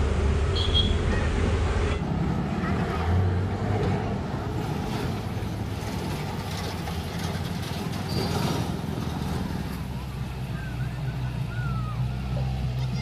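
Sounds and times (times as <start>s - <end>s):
bus engine low rumble: 0.0s - 13.0s
lorry engine: 0.0s - 13.0s.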